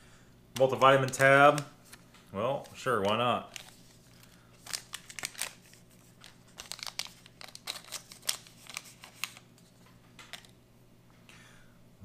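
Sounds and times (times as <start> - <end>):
plastic sachet crinkling: 0.6 - 10.5.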